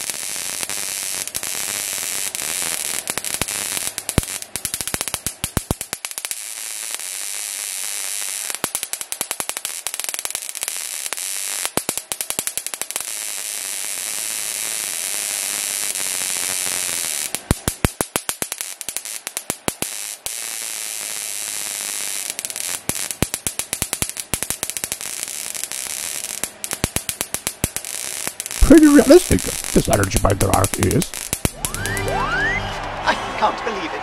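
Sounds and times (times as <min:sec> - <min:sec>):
electric arc crackling: 0:00.0 - 0:32.3.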